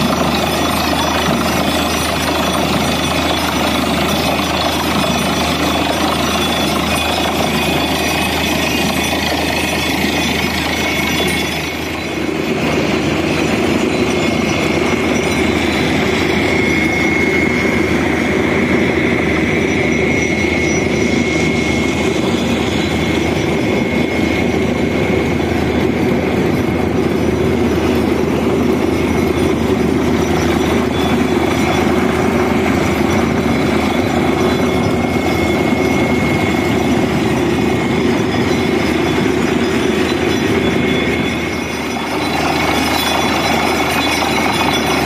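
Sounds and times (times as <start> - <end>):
drilling rig and compressor running: 0.0 - 45.0
faint high whine: 0.0 - 45.0.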